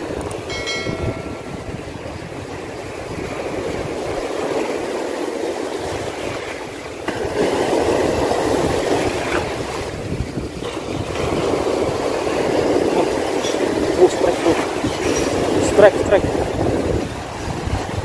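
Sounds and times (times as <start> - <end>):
sea surf washing: 0.0 - 18.0
wind on microphone: 0.0 - 18.0.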